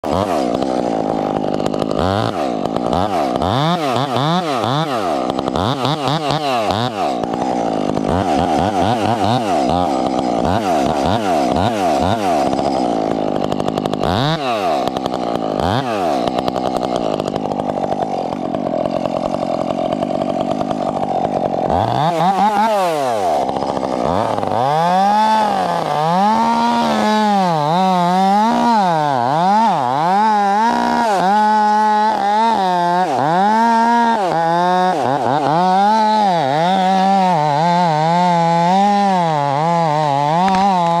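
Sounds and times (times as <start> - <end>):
chainsaw cutting tree trunk: 0.0 - 41.0.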